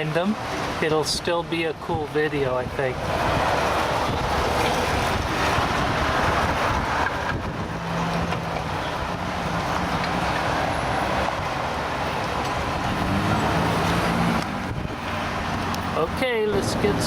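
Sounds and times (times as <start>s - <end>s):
passing vehicles: 0.0s - 17.0s
low engine hum: 3.0s - 17.0s.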